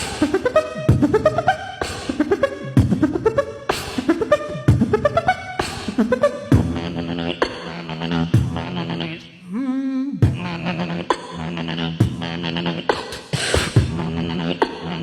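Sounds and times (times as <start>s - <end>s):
beatboxing: 0.0s - 15.0s
rising vocal glides: 0.0s - 15.0s.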